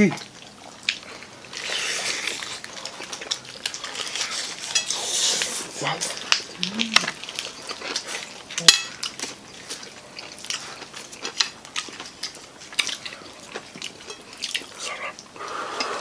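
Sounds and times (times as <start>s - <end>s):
eating sounds: 0.0s - 16.0s
fried chicken skin crunching: 0.7s - 14.9s.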